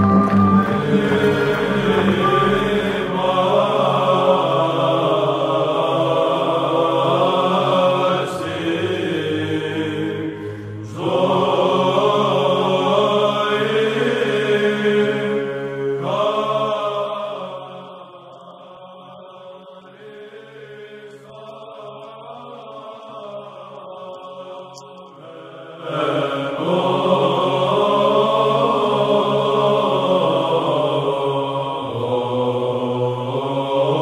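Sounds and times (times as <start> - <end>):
choir chanting sustained notes: 0.0 - 34.0.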